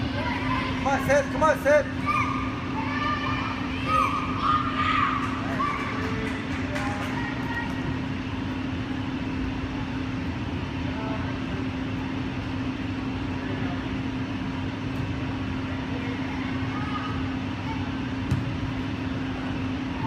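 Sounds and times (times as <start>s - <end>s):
ventilation system hum: 0.0s - 20.0s.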